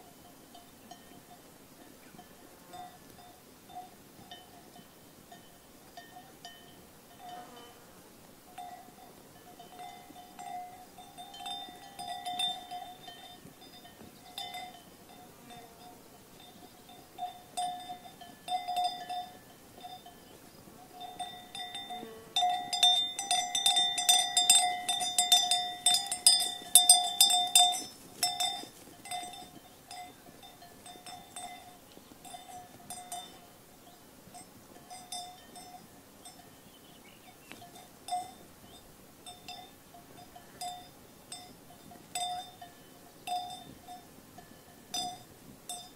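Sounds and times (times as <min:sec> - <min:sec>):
sheep bells clanking: 0:00.0 - 0:07.8, 0:08.5 - 0:45.9.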